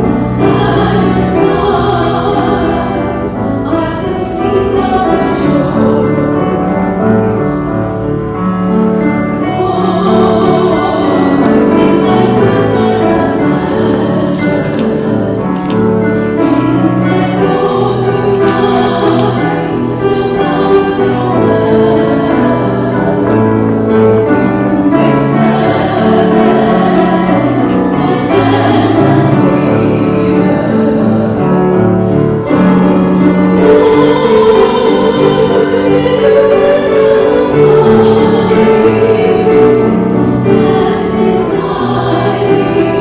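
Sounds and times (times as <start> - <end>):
accompaniment in held chords: 0.0 - 43.0
choir singing a hymn: 0.0 - 43.0.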